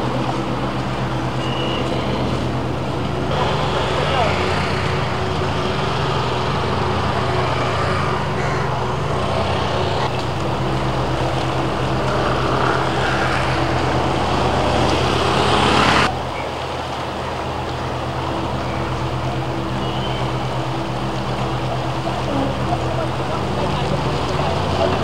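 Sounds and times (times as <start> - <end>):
broad rushing noise: 0.0 - 25.0
road traffic engine hum: 0.0 - 25.0.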